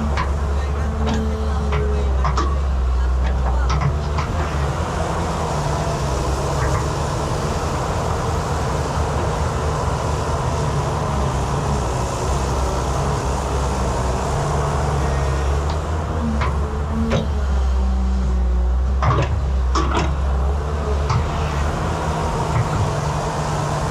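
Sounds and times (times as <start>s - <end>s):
excavator engine running: 0.0s - 23.9s.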